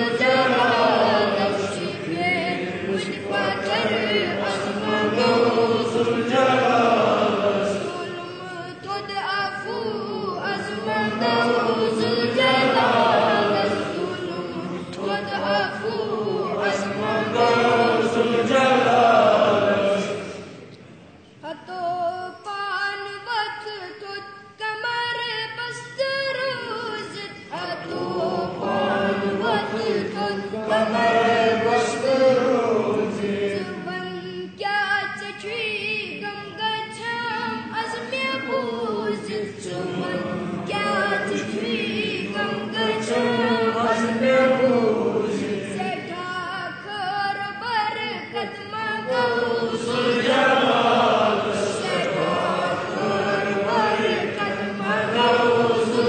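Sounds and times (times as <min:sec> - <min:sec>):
child singing a devotional song: 0:00.0 - 0:06.4, 0:07.6 - 0:18.5, 0:21.4 - 0:32.4, 0:33.1 - 0:44.7, 0:45.7 - 0:50.4, 0:51.4 - 0:56.0.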